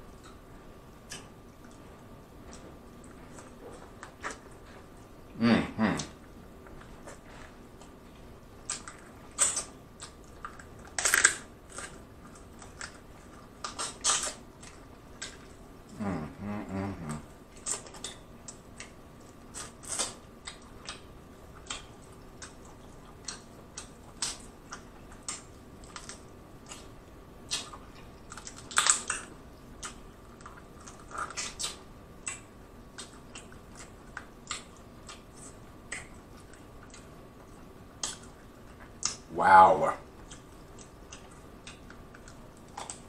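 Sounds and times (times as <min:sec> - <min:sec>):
wet mouth clicks and chewing: 0:00.1 - 0:05.1, 0:06.0 - 0:16.0, 0:17.0 - 0:39.3, 0:40.2 - 0:43.0.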